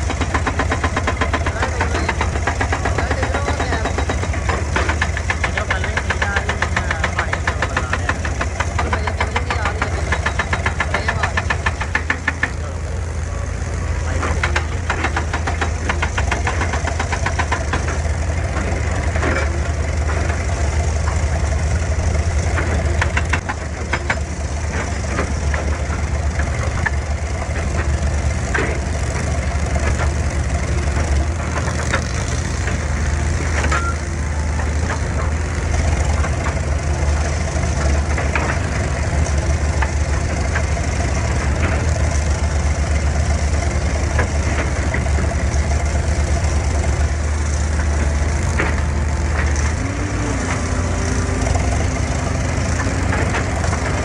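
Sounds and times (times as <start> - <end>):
clanks and knocks: 0.0 - 54.0
excavator diesel engine running: 0.0 - 54.0.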